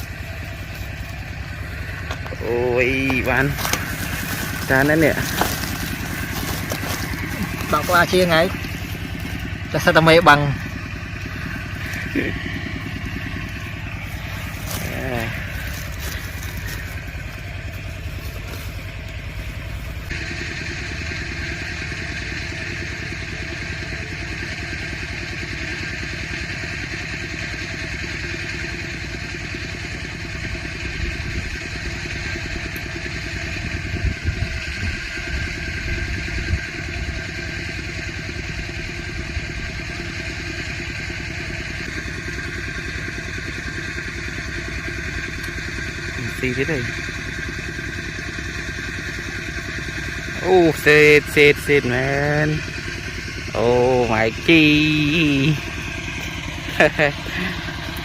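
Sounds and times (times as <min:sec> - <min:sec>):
small vehicle engine running: 0:00.0 - 0:58.0.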